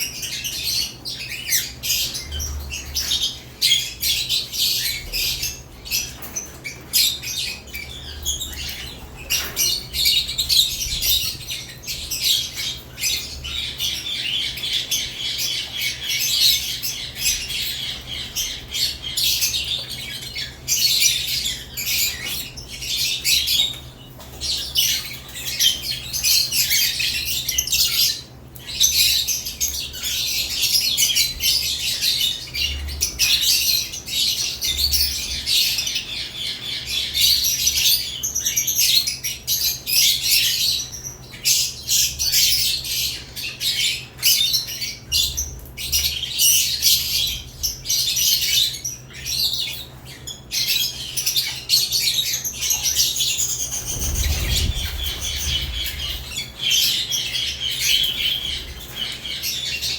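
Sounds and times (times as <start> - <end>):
lovebirds chattering and squawking: 0.0 - 59.9.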